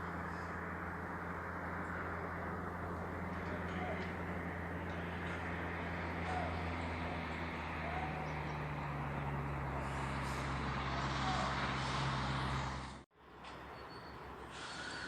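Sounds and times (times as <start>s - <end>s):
engine running: 0.0s - 13.6s.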